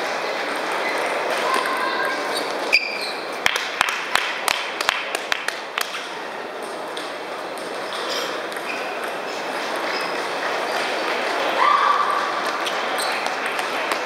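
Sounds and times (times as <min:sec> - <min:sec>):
large hall background: 0:00.0 - 0:14.0.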